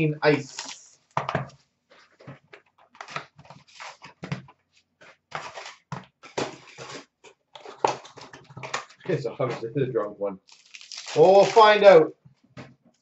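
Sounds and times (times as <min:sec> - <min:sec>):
card packs and box rustling: 0:00.3 - 0:09.6, 0:10.5 - 0:12.0.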